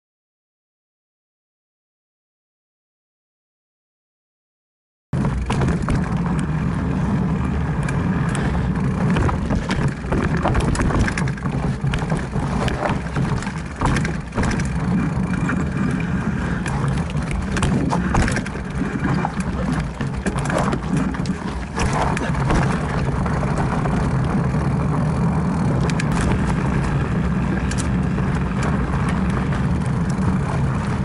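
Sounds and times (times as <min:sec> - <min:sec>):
bike rattling over bumps: 0:05.2 - 0:31.0
wind and tyre rumble: 0:05.2 - 0:31.0.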